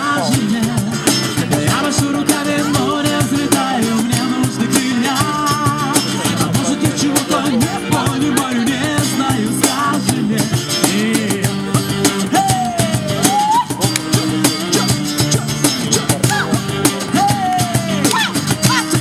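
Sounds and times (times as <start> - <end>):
guitar: 0.0 - 19.0
percussion beat: 0.0 - 19.0
wavering melodic lead line: 0.0 - 19.0.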